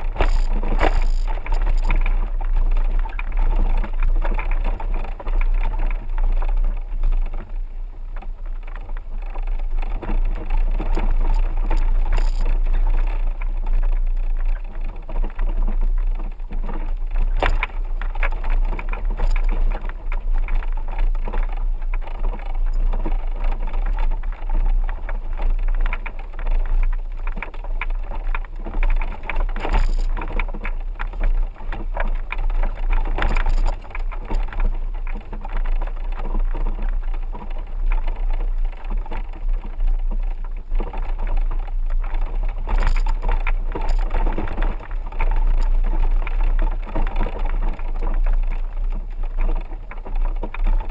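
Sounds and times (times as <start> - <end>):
vehicle engine and road rumble: 0.0 - 50.9
vehicle knocks and rattles: 8.2 - 50.9.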